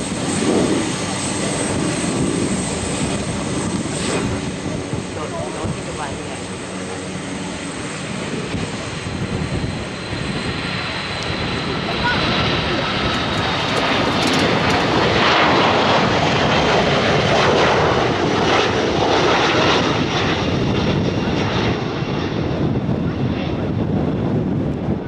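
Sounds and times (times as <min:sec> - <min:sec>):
airliner engines flying past: 0:00.0 - 0:25.0.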